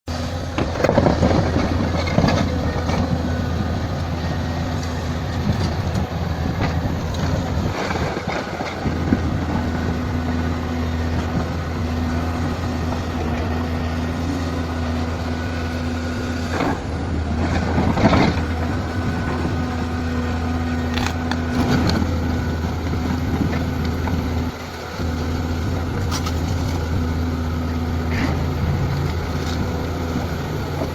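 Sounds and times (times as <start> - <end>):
excavator diesel engine drone: 0.0 - 30.9.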